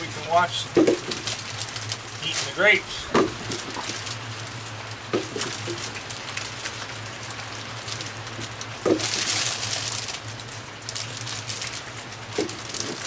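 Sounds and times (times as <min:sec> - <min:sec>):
plastic bag rustling: 0:00.0 - 0:13.0
rain drips ticking: 0:00.0 - 0:13.0
rain falling: 0:00.0 - 0:13.0.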